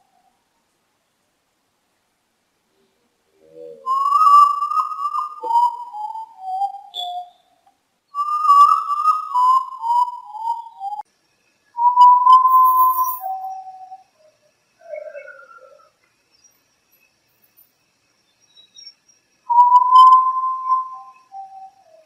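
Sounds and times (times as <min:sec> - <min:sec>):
bird mournful whistled song: 0:03.3 - 0:11.1, 0:11.7 - 0:22.0.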